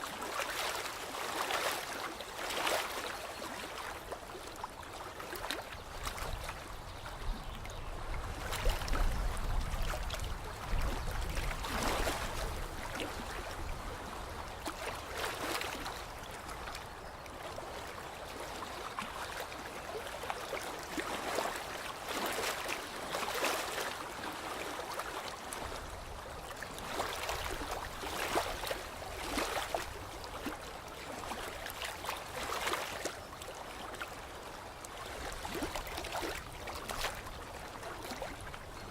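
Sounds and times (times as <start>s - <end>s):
lake water lapping: 0.0s - 38.9s.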